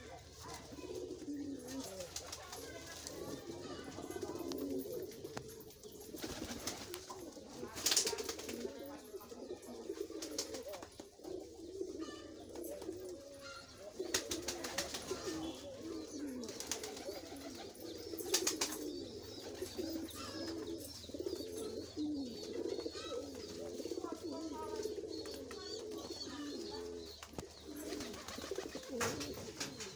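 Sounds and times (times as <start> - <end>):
pigeons cooing: 0.0 - 29.9.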